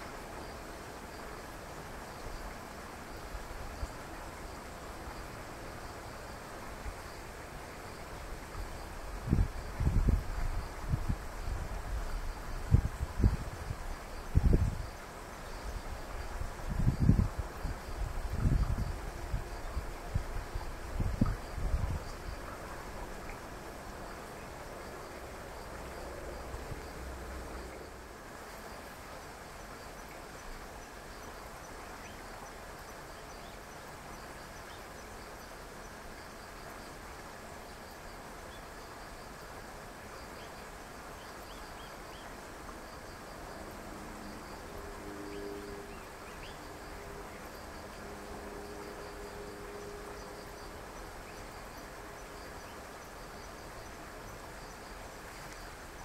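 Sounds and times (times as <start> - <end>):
background hiss: 0.0 - 56.0
distant insects chirping: 0.0 - 56.0.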